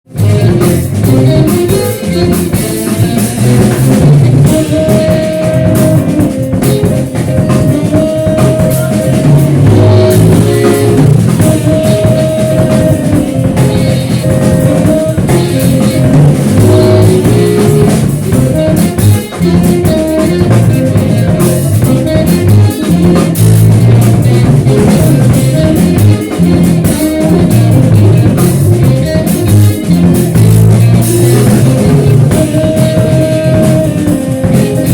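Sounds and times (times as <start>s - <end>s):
rock band playing live: 0.0s - 34.9s.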